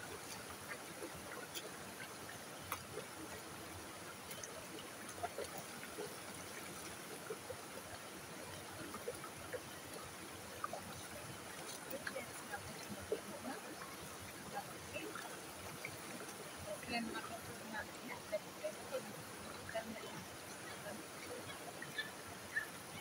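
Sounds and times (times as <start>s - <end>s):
creek water running: 0.0s - 23.0s
small splashes and drips: 0.0s - 23.0s.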